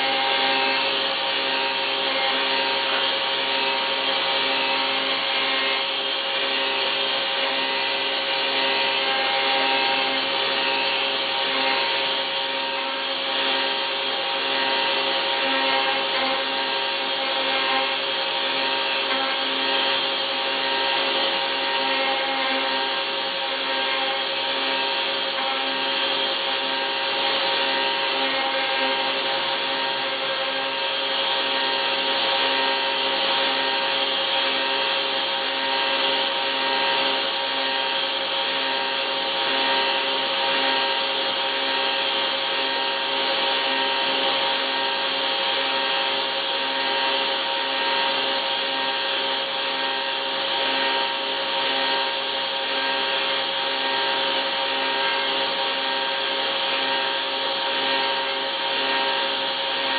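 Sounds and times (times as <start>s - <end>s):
milling machine whine: 0.0s - 59.9s.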